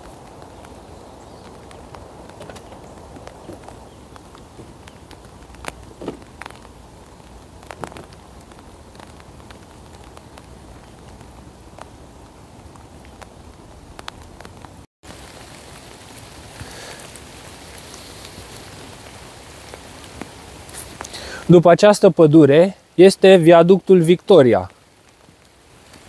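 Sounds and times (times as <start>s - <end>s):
raindrops tapping close: 0.0s - 26.0s
steady rain hiss: 0.0s - 26.0s.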